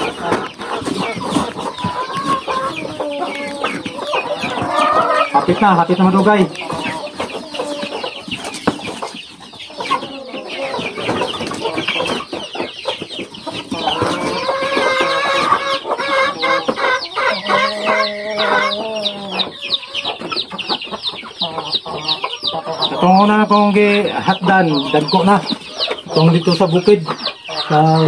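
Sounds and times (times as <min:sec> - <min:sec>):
chickens clucking and calling: 0:00.0 - 0:28.0.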